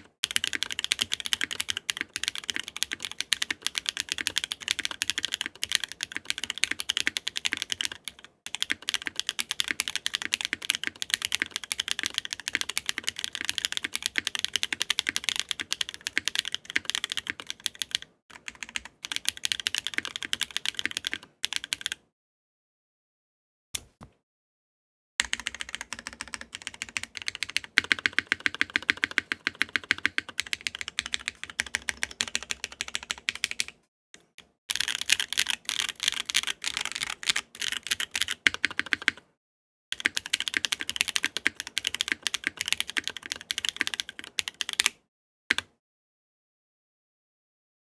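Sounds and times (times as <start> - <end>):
mechanical keyboard typing: 0.0 - 22.0, 25.2 - 33.8, 34.7 - 39.2, 40.0 - 44.9.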